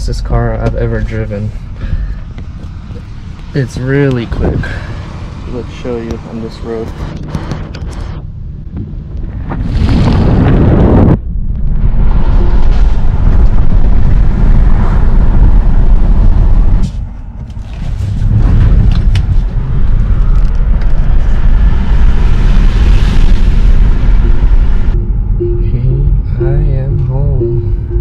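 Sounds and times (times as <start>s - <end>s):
car tyre and wind rumble: 0.0s - 28.0s.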